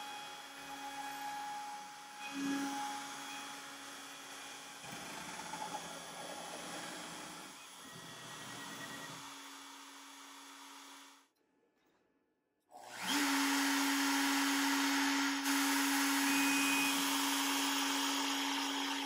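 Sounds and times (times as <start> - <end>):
router spindle humming: 0.0 - 11.1, 12.8 - 19.0.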